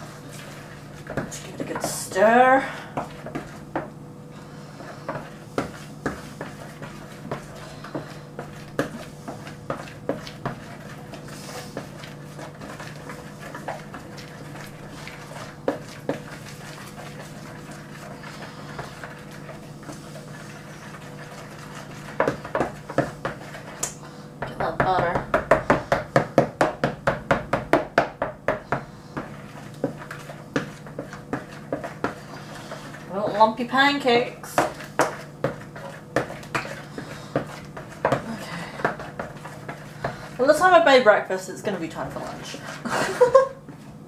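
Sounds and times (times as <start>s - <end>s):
utensil stirring batter in bowl: 0.0s - 43.8s
steady low hum: 0.0s - 44.0s.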